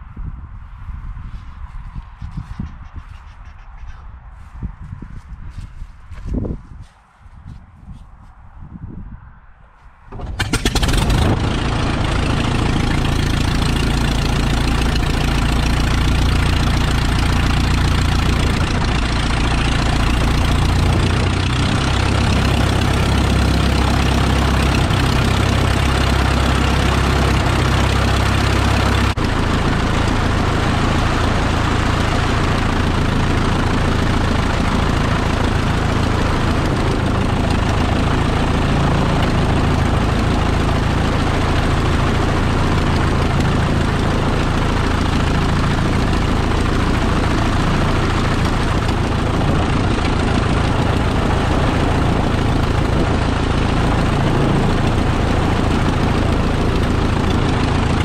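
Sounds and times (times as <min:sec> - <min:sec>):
aircraft engine idling: 0:10.1 - 0:58.0.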